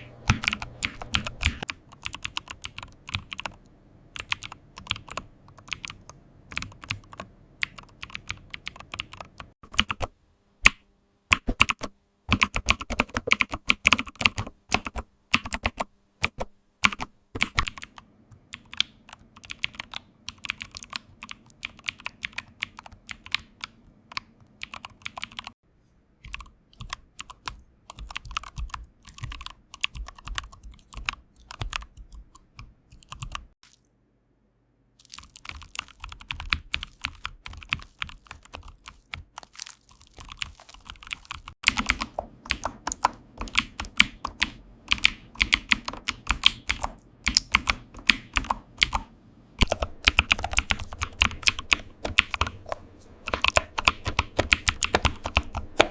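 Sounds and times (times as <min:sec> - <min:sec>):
fast typing on keyboard: 0:00.3 - 0:10.0, 0:11.4 - 0:25.6, 0:26.2 - 0:33.6, 0:35.0 - 0:49.0, 0:49.6 - 0:55.9.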